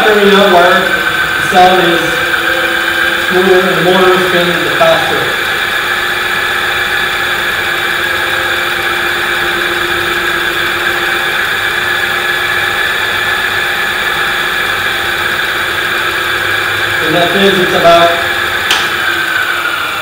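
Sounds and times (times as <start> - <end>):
electric hub motor whining: 0.0 - 20.0.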